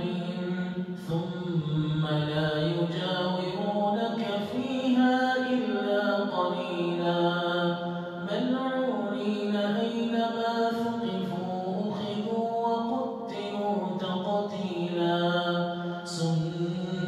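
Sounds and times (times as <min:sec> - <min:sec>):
man chanting recitation: 0:00.0 - 0:17.0.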